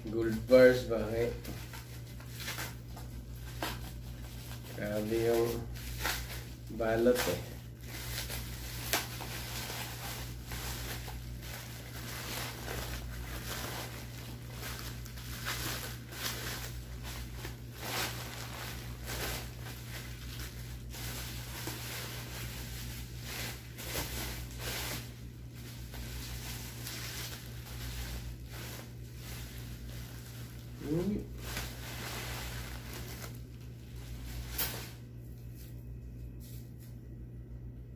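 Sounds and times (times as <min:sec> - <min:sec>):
bubble wrap crinkling: 0:00.0 - 0:36.9
steady low hum: 0:00.0 - 0:37.9.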